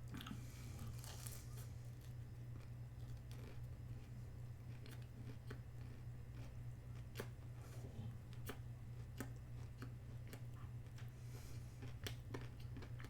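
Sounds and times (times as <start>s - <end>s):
low electrical hum: 0.0s - 13.0s
person chewing food: 0.1s - 13.0s.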